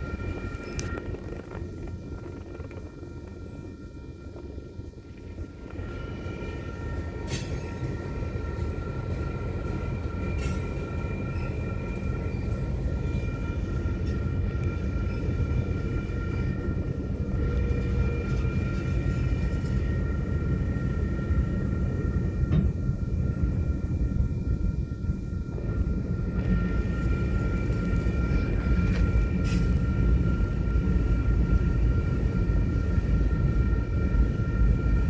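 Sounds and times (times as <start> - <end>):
high ringing tone: 0.0 - 29.4
train wheels rumbling on rail: 0.0 - 35.0.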